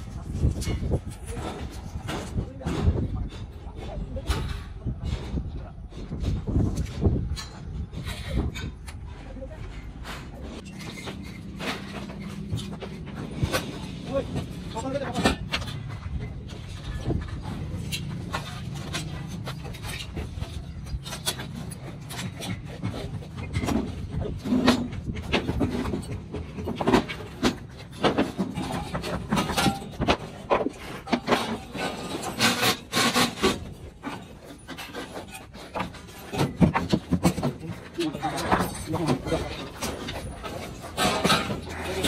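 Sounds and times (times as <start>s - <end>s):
wooden planks knocking and clattering: 0.0s - 42.0s.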